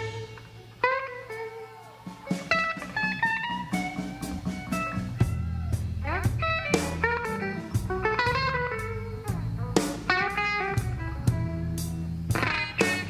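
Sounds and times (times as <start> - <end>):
electric guitar sliding notes: 0.0 - 13.0
rock music: 0.0 - 13.0.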